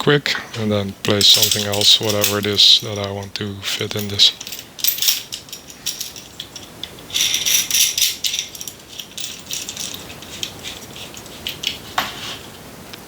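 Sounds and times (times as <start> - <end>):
metal vise parts clicking and rattling: 1.0 - 12.1.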